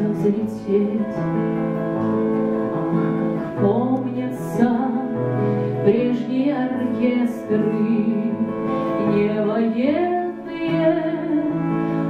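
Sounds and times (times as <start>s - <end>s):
woman singing: 0.0s - 1.5s, 2.4s - 12.0s
acoustic guitar chords: 0.0s - 12.0s.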